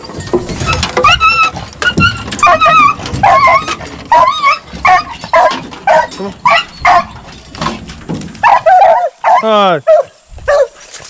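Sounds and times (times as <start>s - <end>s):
hounds barking and yelping: 0.5s - 10.8s.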